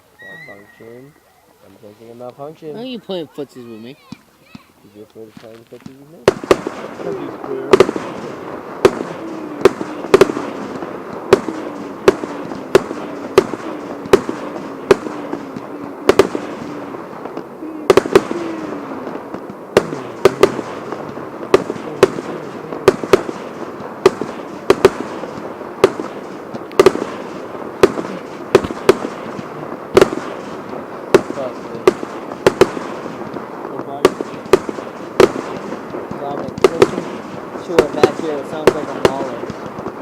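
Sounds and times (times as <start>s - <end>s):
fireworks banging: 0.0s - 40.0s
fireworks crackling: 0.0s - 40.0s.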